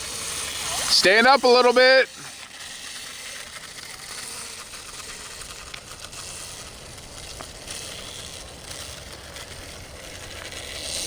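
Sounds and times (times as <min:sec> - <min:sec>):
dry leaves rustling and crackling: 0:02.1 - 0:11.0.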